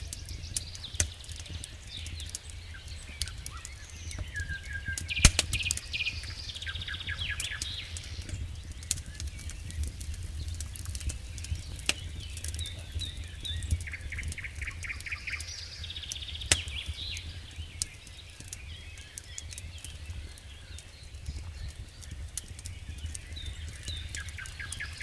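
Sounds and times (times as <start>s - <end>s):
birds chirping and trilling: 0.0s - 25.0s
campfire crackling and popping: 0.0s - 25.0s.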